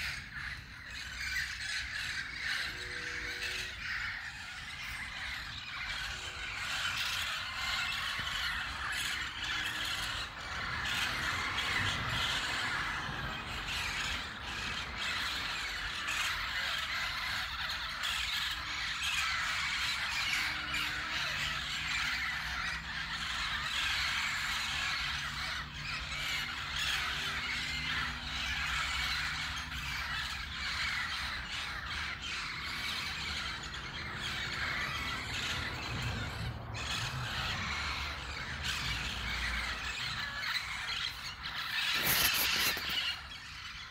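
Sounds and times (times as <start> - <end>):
parakeets screeching and chattering: 0.0 - 43.9.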